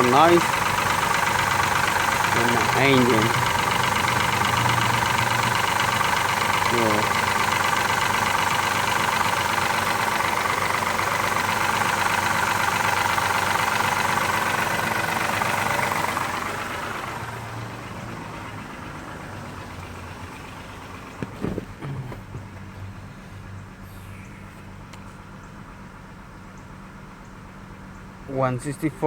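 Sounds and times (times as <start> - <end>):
car engine with ticking knock: 0.0 - 29.0.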